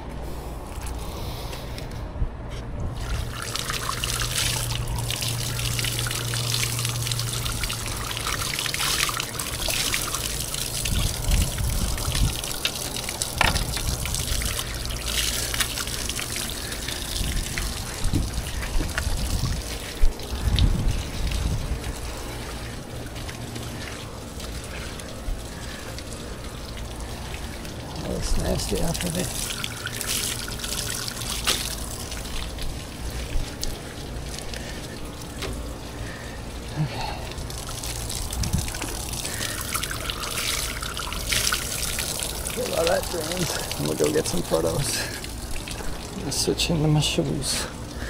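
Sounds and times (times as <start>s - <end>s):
low steady hum: 0.0s - 48.0s
water trickling and splashing: 2.8s - 48.0s.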